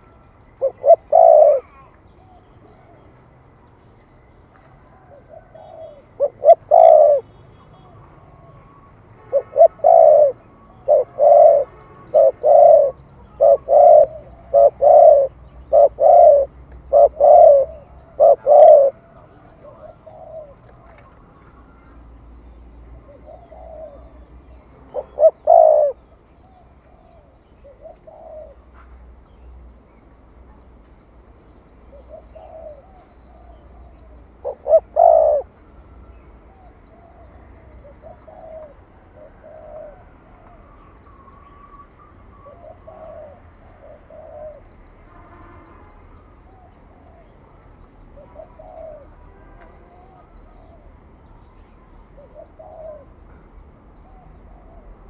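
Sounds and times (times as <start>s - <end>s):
dove cooing: 0.0s - 3.1s, 4.7s - 28.7s, 31.8s - 44.8s, 46.5s - 53.2s, 53.9s - 55.0s.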